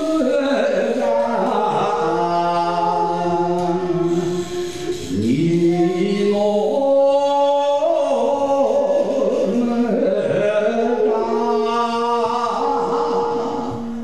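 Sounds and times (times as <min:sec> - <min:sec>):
man singing folk song: 0:00.0 - 0:14.0.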